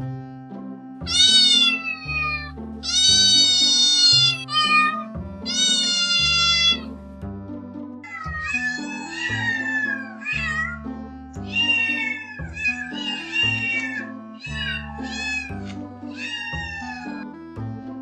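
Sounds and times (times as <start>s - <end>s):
background music: 0.0s - 18.0s
cat meowing: 1.1s - 6.9s, 8.0s - 17.3s.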